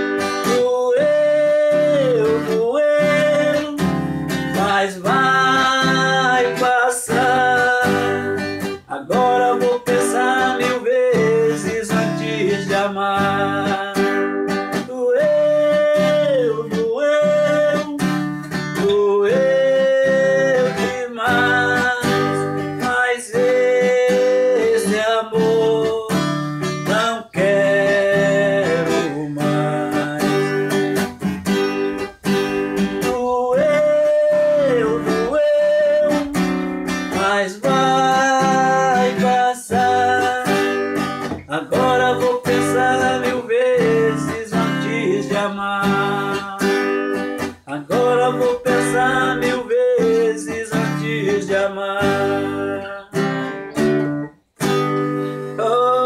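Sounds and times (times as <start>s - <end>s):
man singing: 0.0s - 54.3s, 55.3s - 56.0s
acoustic guitar strumming: 0.0s - 56.0s.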